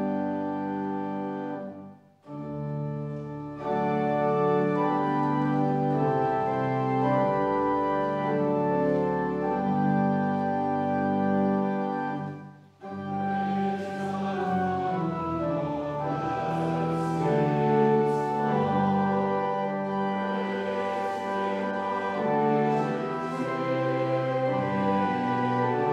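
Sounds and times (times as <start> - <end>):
organ playing slow chords: 0.0 - 25.9.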